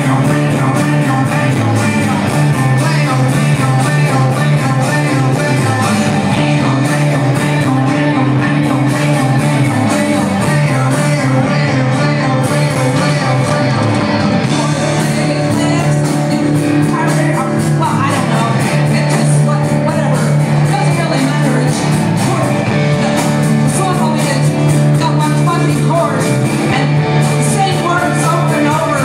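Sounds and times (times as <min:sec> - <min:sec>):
live rock band playing: 0:00.0 - 0:29.0
person singing: 0:00.0 - 0:29.0.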